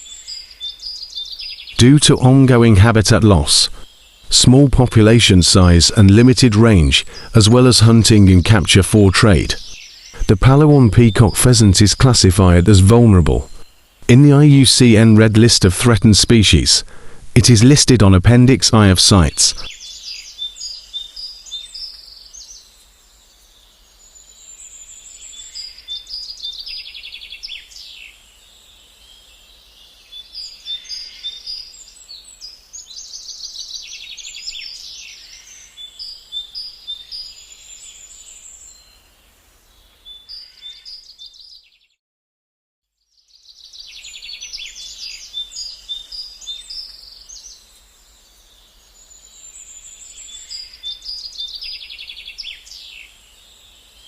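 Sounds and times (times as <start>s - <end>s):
small birds chirping and singing: 0.0s - 42.0s, 42.9s - 54.0s.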